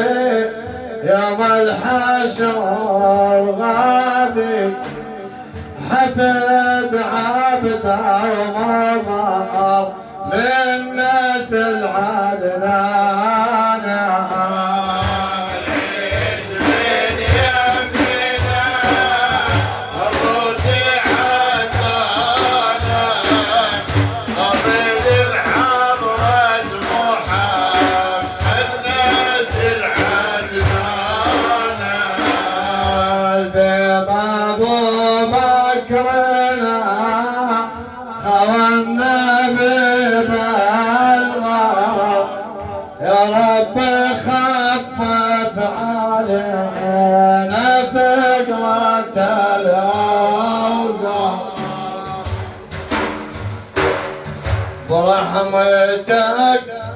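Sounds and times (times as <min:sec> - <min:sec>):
man singing praise song: 0:00.0 - 0:53.1, 0:54.5 - 0:56.9
steady drum beat: 0:00.0 - 0:56.9.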